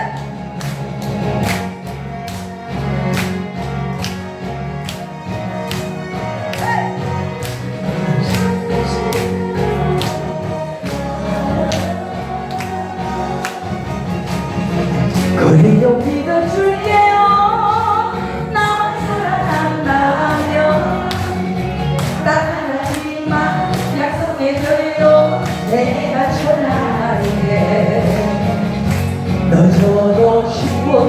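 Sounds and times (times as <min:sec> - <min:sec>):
trot music with singing: 0:00.0 - 0:31.0.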